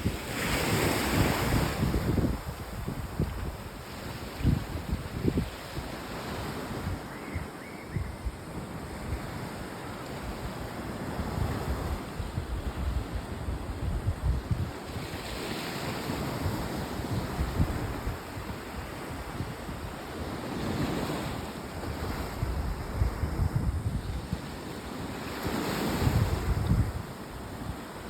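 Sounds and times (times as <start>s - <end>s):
ocean surf washing: 0.0s - 28.0s
wind buffeting microphone: 0.0s - 28.0s.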